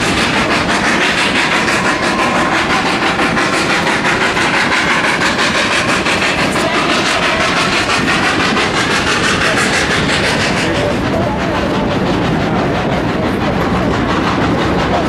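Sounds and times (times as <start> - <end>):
rolling noise of train cars: 0.0 - 15.0
steam locomotive exhaust beating: 0.0 - 15.0.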